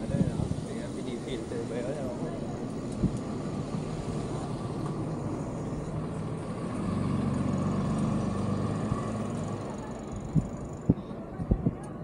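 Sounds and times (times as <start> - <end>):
bus engine running: 0.0 - 12.0
road traffic noise: 0.0 - 12.0.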